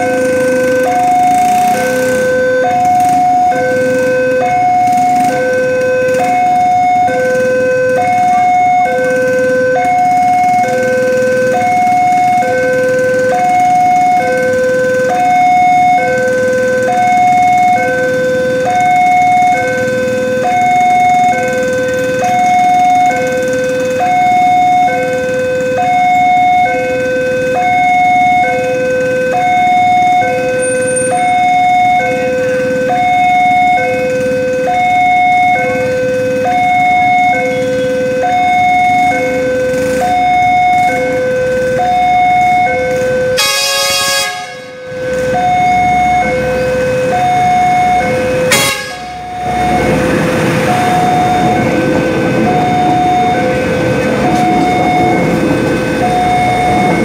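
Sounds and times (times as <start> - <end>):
two-tone warning alarm: 0.0 - 57.0.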